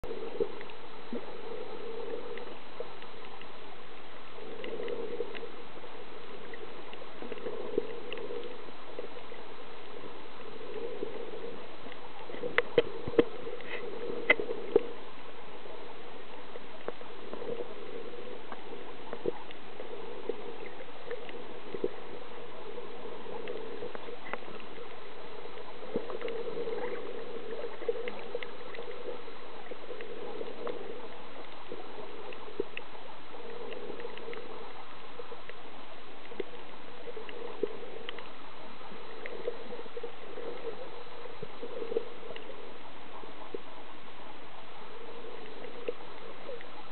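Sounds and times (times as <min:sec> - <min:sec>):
muffled underwater hiss: 0:00.0 - 0:46.9
soft water gurgling: 0:00.0 - 0:46.9.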